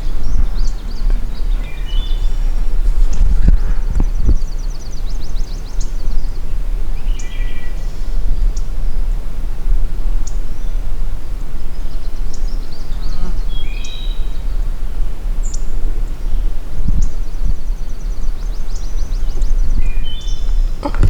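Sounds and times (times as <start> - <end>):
songbirds chirping: 0.0 - 21.0
wind buffeting microphone: 0.0 - 21.0.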